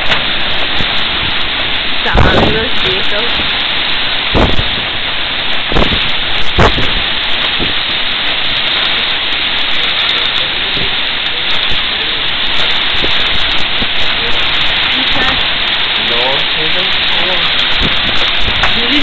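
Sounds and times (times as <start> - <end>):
driving rain hiss: 0.0 - 19.0
storm wind gusting: 0.0 - 19.0.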